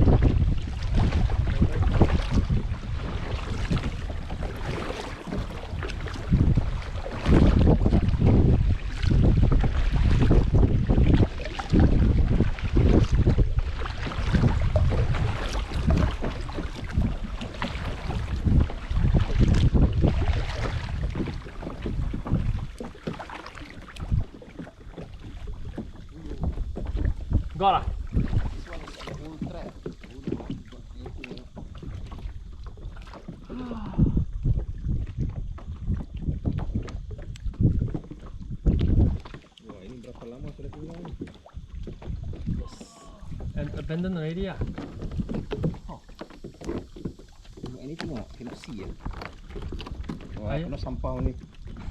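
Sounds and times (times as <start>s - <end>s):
water splashes: 0.0s - 51.9s
wind buffeting the microphone: 0.0s - 51.9s.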